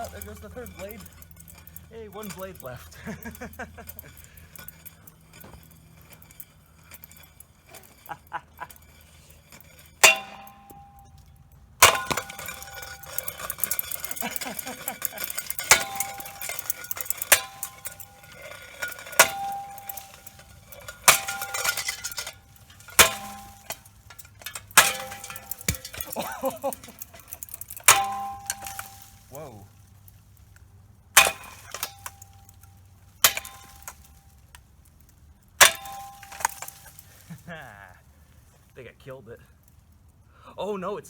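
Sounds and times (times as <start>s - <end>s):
ceiling fan rattling: 0.0s - 38.6s
ringing metallic clank: 0.0s - 38.6s.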